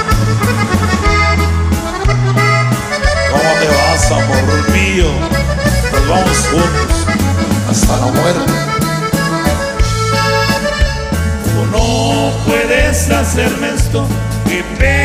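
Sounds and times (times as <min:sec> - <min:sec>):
accordion melody: 0:00.0 - 0:15.0
bass line: 0:00.0 - 0:15.0
steady drum beat: 0:00.0 - 0:15.0.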